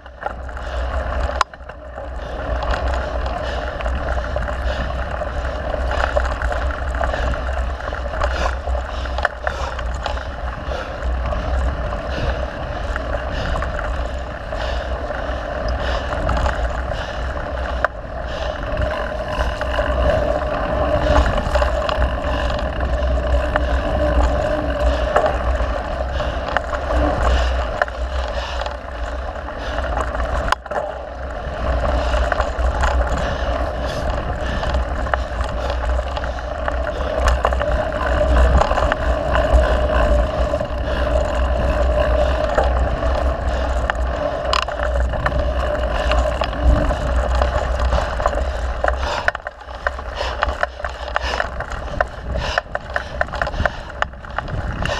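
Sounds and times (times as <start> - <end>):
mountain bike rolling on dirt: 0.0 - 54.9.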